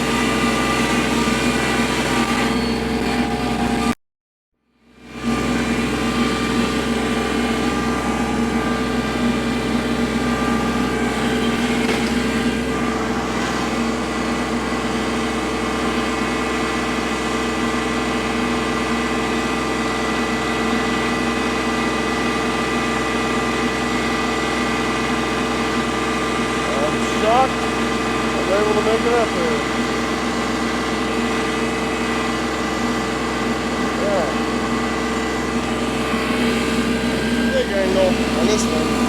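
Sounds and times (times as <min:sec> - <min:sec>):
tractor diesel engine running: 0:00.0 - 0:04.0, 0:04.8 - 0:39.0.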